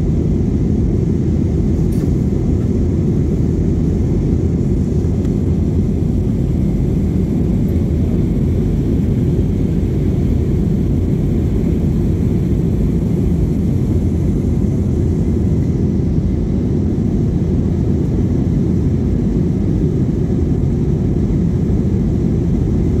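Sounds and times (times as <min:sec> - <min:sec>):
jet engines at climb power: 0:00.0 - 0:23.0.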